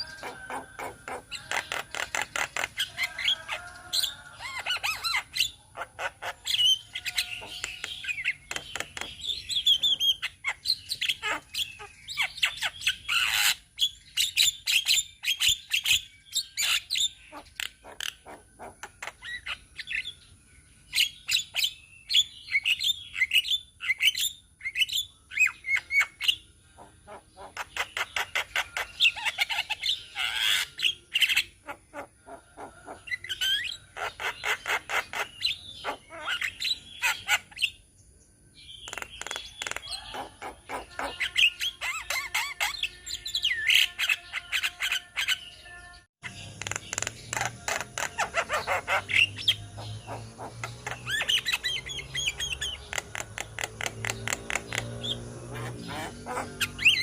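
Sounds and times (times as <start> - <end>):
birds chattering and squawking: 0.0 - 57.0.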